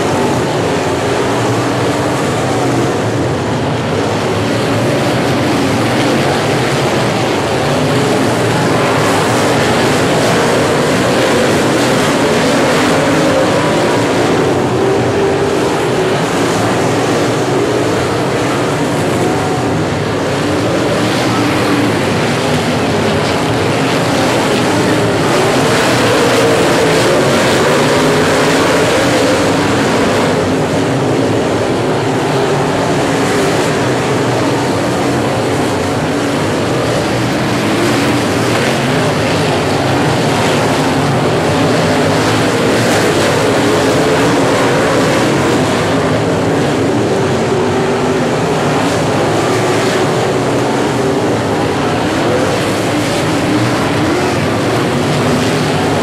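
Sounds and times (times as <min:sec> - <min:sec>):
race car engines roaring: 0:00.0 - 0:56.0.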